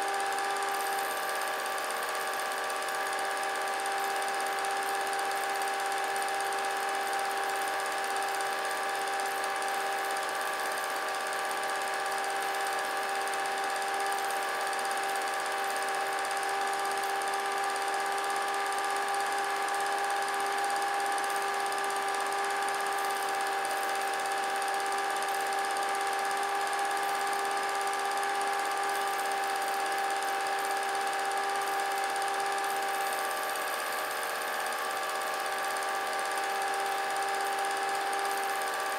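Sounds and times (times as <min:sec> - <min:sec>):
motor-like whine: 0:00.0 - 0:38.9.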